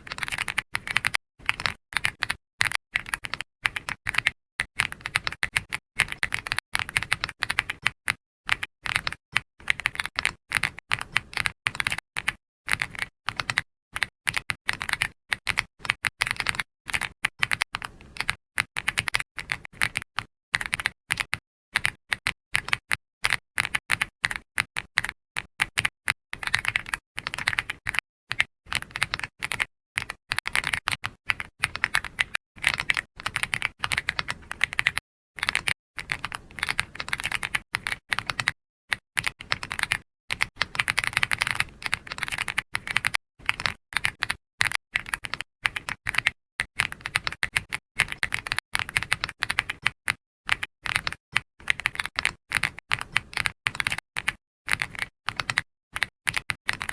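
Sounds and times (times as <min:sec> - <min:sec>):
keyboard typing: 0:00.0 - 0:56.9.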